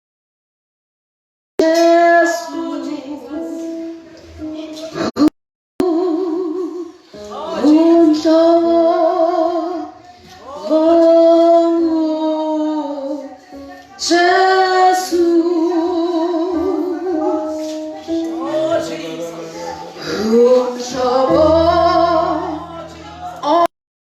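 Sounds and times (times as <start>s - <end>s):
woman singing with vibrato: 1.6s - 3.7s, 5.8s - 23.7s.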